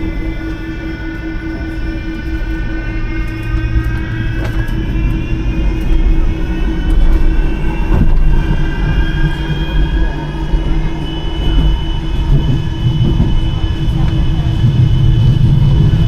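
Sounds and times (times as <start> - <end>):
traction motor whine: 0.0 - 16.0
tram wheels rumbling on track: 0.0 - 16.0.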